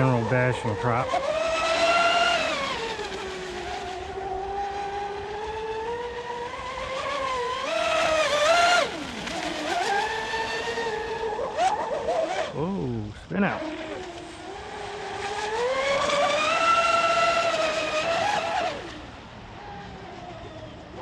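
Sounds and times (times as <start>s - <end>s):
model speedboat motor whining: 0.0s - 21.0s.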